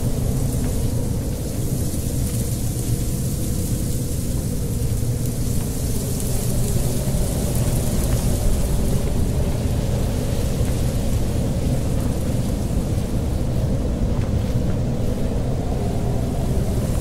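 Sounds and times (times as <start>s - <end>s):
wind buffeting microphone: 0.0s - 17.0s
wind hissing in trees: 0.0s - 17.0s.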